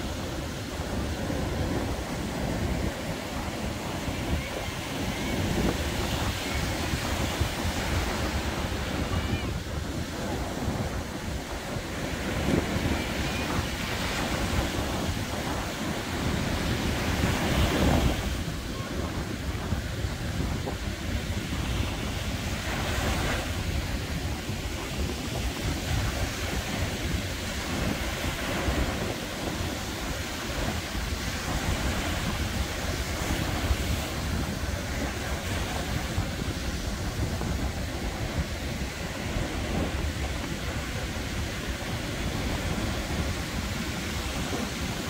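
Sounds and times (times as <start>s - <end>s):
surf washing up beach: 0.0s - 45.0s
wind buffeting microphone: 0.0s - 45.0s.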